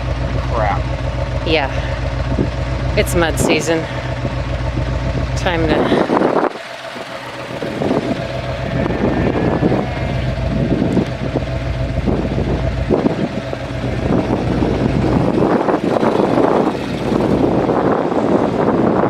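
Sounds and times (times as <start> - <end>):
vehicle engine running: 0.0 - 19.0
wind noise on microphone: 2.3 - 19.0.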